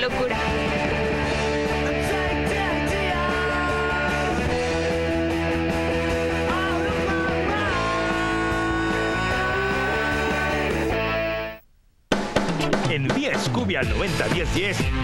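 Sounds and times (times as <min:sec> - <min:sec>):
rock music with bending notes: 0:00.0 - 0:15.0.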